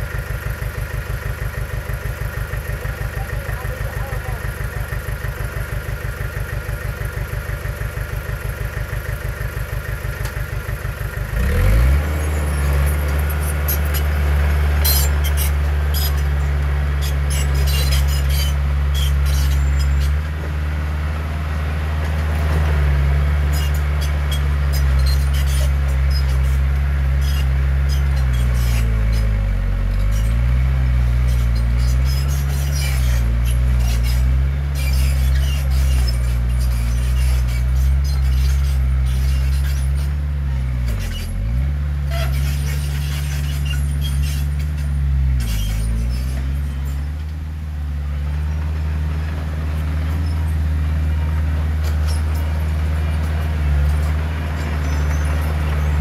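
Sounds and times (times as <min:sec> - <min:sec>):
heavy diesel engine: 0:00.0 - 0:56.0.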